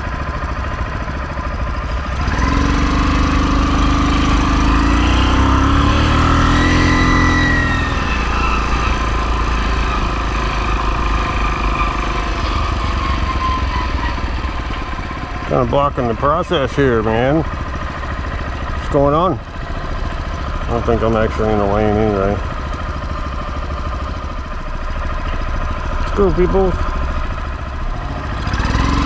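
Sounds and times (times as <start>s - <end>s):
motorized bicycle engine accelerating: 1.0s - 16.3s, 19.8s - 29.0s.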